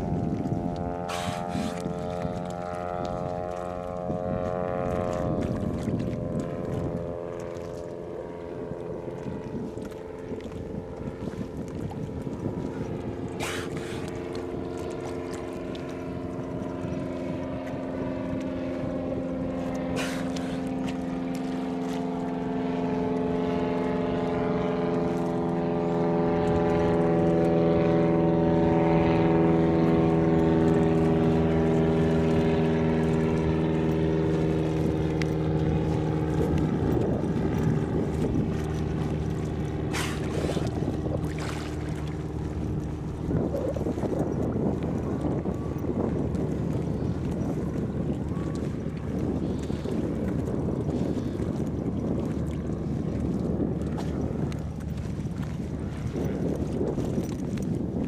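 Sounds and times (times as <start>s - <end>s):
motorboat engine humming: 0.0s - 58.0s.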